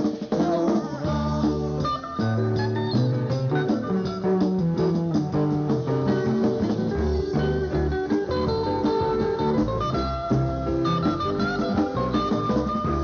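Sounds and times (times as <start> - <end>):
guitar-led band music: 0.0 - 13.0
bass line: 0.4 - 13.0.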